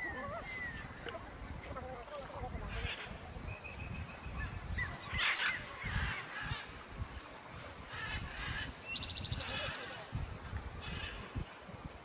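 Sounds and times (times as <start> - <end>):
water sloshing as people wade: 0.0 - 11.8.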